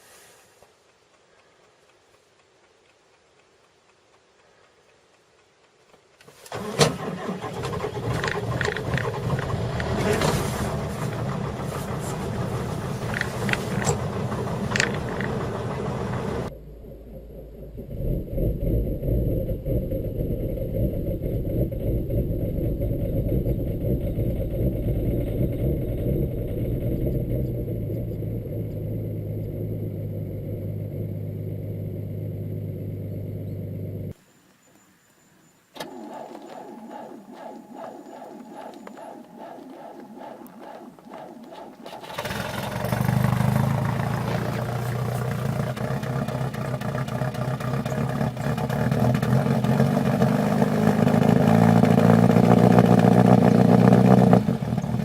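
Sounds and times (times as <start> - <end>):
diesel engine running rough: 6.6 - 34.1, 35.9 - 55.0
steady low engine hum: 7.4 - 34.2, 35.9 - 55.0.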